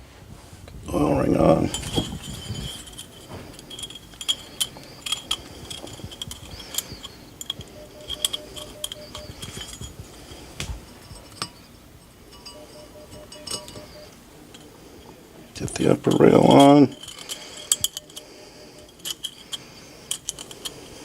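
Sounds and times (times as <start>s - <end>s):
metallic clicks and clinks: 1.4s - 21.0s.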